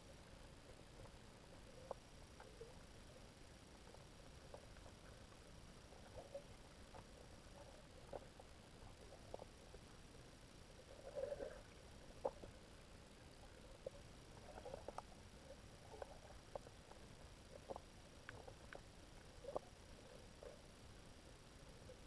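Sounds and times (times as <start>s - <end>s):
low underwater hiss: 0.0s - 22.0s
soft underwater clicks: 0.1s - 22.0s.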